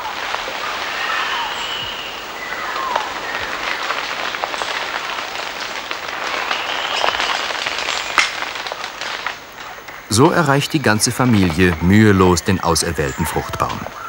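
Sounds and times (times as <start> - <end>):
leaves and branches rustling: 0.0 - 14.0
twigs snapping: 0.0 - 14.0.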